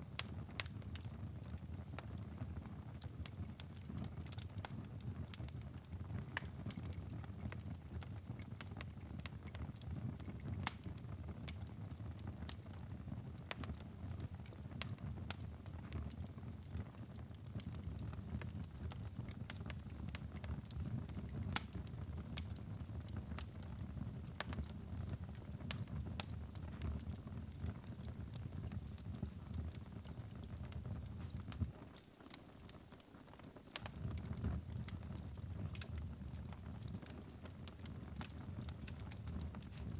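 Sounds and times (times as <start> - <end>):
fire crackles and pops: 0.0 - 39.9
low rumble of flames: 0.1 - 31.8, 33.7 - 39.9.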